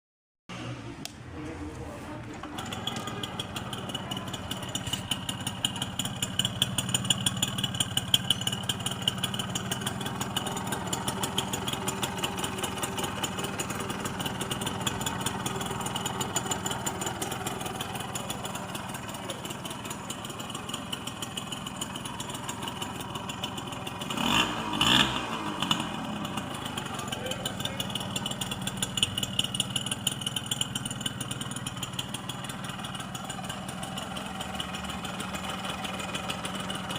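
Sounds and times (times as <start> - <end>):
two-stroke motorcycle engine idling: 2.3 - 36.9.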